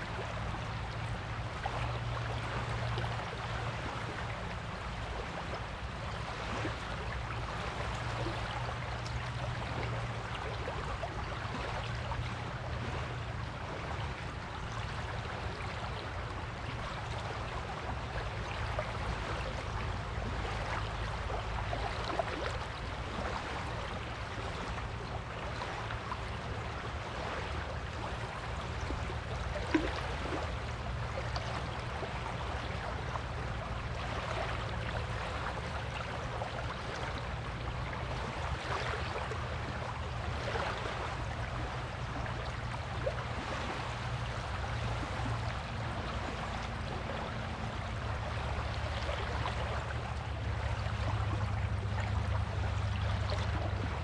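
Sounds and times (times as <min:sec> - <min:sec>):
sea waves washing on shore: 0:00.0 - 0:54.0.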